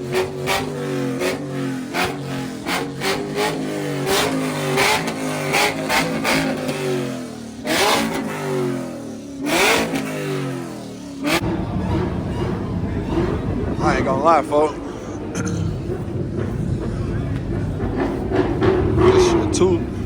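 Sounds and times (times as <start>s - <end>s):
car engine revving: 0.0s - 20.0s
sharp exhaust cracks: 0.0s - 20.0s.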